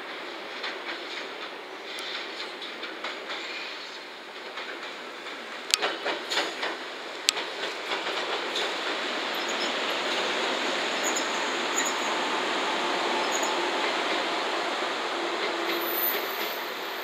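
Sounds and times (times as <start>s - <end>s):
electric train running on track: 0.0s - 17.0s
wheels clacking over rail joints: 0.1s - 17.0s.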